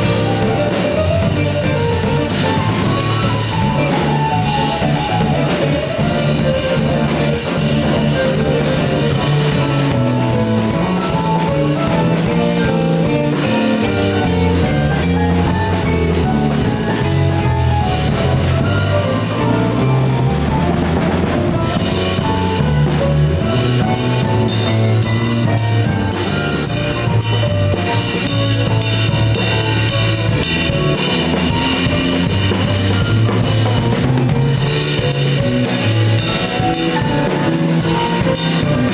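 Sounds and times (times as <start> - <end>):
bass line: 0.0 - 38.9
drumming: 0.0 - 38.9
live instrumental band: 0.0 - 38.9.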